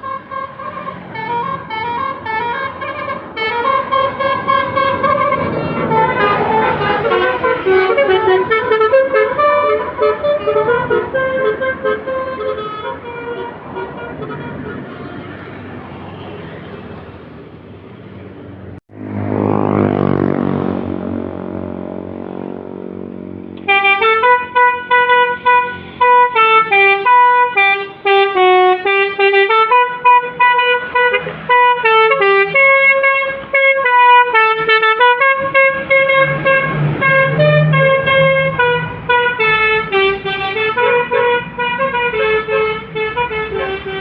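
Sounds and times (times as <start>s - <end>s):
multi-tone bus horn playing a tune: 0.0s - 15.6s, 19.0s - 44.0s.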